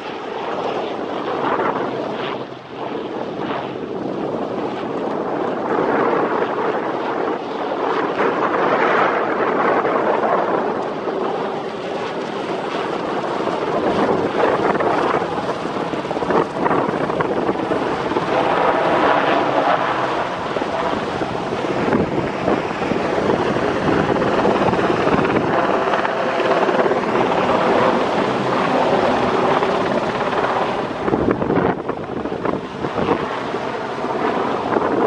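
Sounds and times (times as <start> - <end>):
helicopter rotor and engine noise: 0.0 - 35.0.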